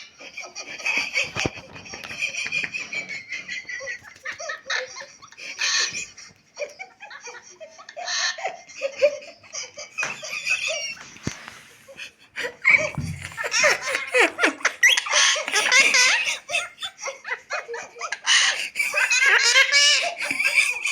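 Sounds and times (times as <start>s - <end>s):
high-pitched laughter: 0.0s - 20.9s.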